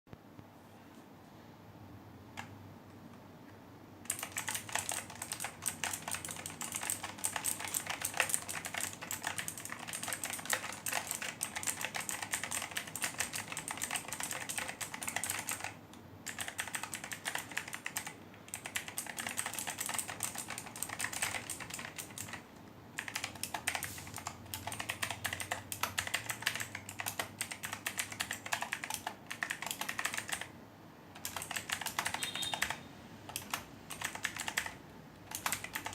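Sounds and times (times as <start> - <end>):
mechanical keyboard typing: 4.0 - 30.5, 31.2 - 35.9.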